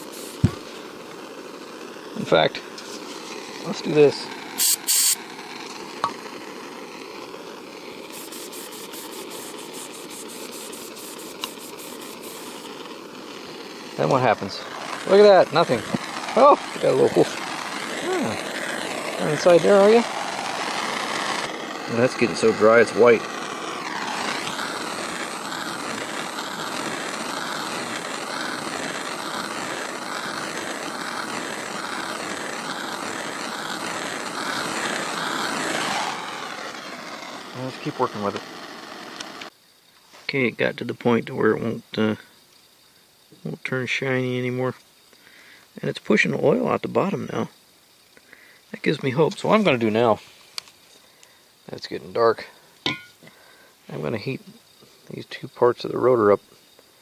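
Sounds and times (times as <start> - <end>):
gas torch hissing: 0.0 - 40.5, 44.1 - 57.0.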